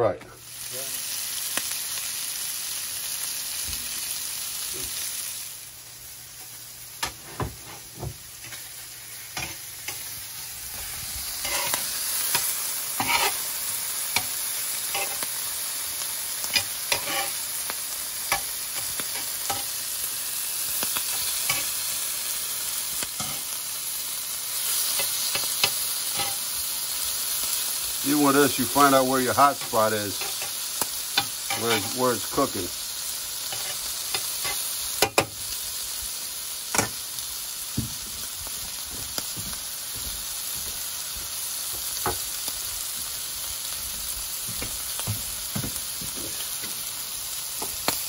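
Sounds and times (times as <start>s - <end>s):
calamari sizzling in oil: 0.4s - 48.0s.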